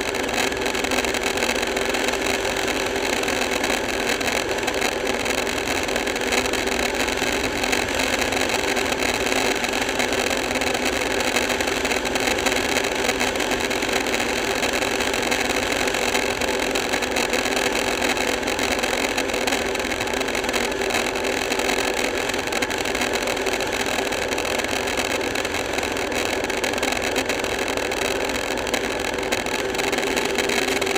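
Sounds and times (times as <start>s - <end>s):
motorcycle engine droning: 0.0s - 30.9s
wind and road noise: 0.0s - 30.9s.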